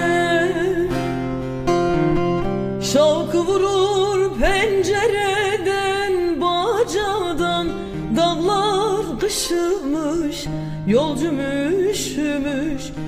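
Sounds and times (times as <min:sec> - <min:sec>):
woman singing ornamented melody: 0:00.0 - 0:01.3, 0:02.8 - 0:13.0
plucked long-necked lutes: 0:00.0 - 0:13.0.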